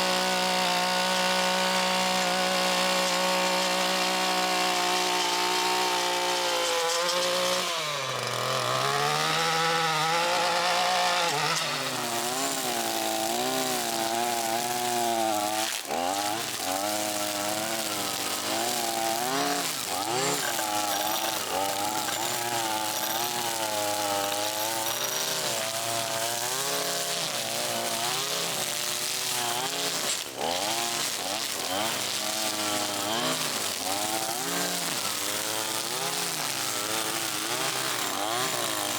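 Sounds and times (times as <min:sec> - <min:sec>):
chainsaw cutting limbs: 0:00.0 - 0:38.9.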